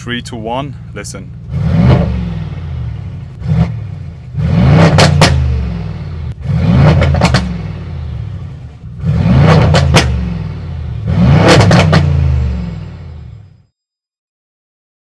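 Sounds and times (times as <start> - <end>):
car engine revving with exhaust cracks: 0.0 - 13.6.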